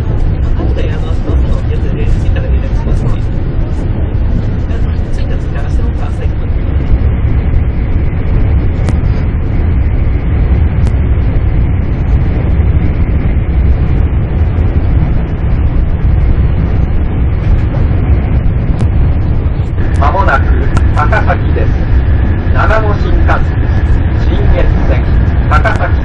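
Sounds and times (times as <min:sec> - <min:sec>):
rushing air: 0:00.0 - 0:26.0
train wheels rumbling on track: 0:00.0 - 0:26.0.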